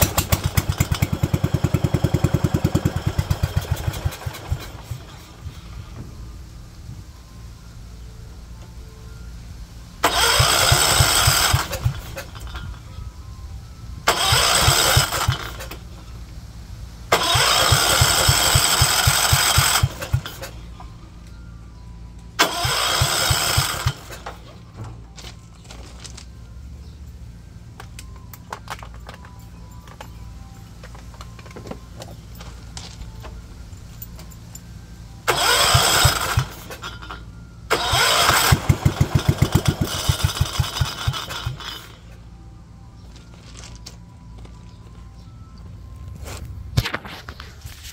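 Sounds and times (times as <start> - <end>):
tractor engine cranking: 0.0 - 7.8, 8.5 - 47.9.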